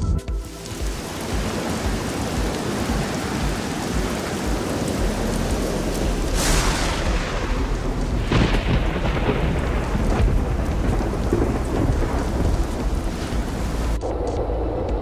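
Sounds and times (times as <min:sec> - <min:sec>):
rain: 0:00.4 - 0:14.1
storm wind gusting: 0:00.5 - 0:14.0
wind buffeting microphone: 0:00.8 - 0:14.0.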